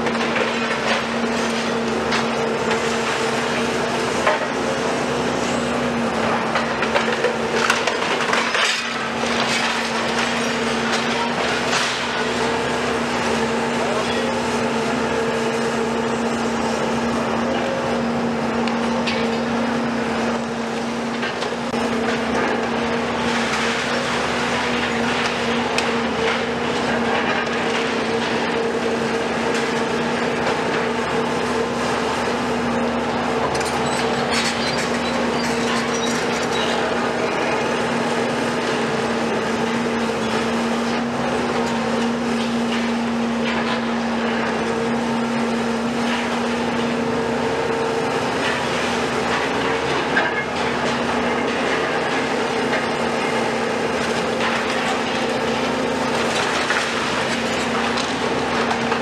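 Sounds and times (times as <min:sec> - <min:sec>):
excavator engines droning: 0:00.0 - 0:59.0.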